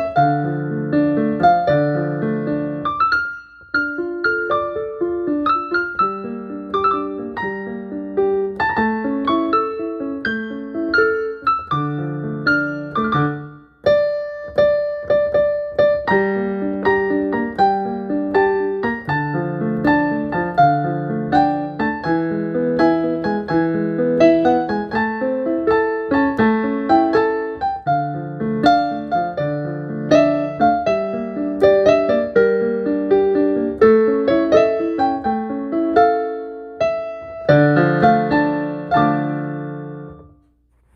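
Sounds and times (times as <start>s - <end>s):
solo piano melody: 0.0s - 40.9s.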